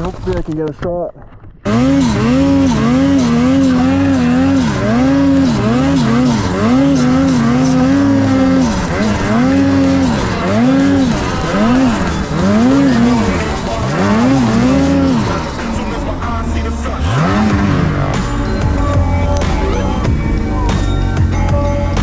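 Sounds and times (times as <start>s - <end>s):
snowmobile engine revving: 1.6s - 22.0s.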